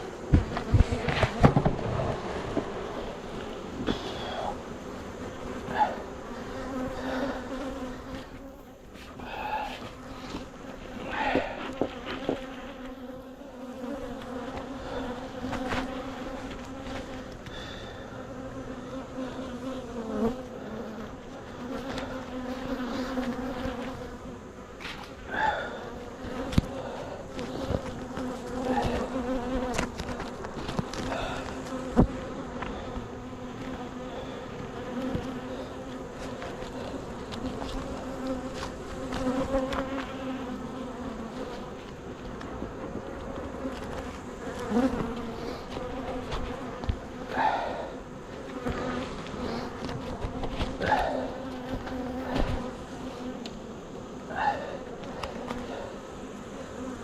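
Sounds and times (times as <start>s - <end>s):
honeybees buzzing: 0.0s - 57.0s.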